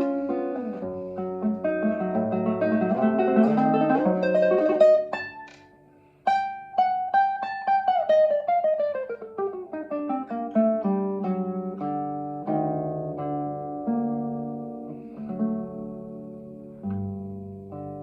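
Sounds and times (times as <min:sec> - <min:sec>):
classical guitar tremolo: 0:00.0 - 0:18.0.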